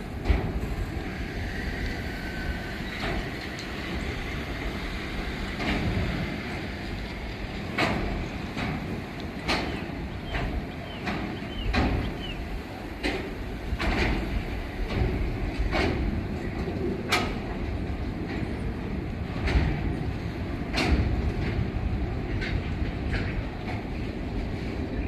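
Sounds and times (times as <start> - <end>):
wheels knocking on rail joints: 0.0 - 24.8
freight train rolling over bridge: 0.0 - 25.0.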